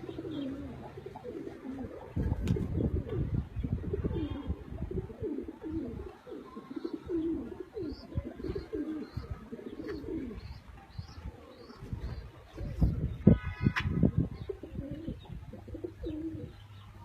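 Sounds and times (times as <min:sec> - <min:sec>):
pigeons cooing: 0:00.0 - 0:16.8.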